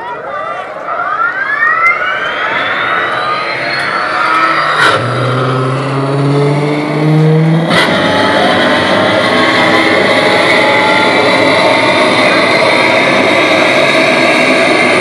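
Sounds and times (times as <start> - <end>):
power-up whine: 0.8 - 15.0
jet-like rushing: 1.4 - 15.0
engine revving: 1.5 - 15.0.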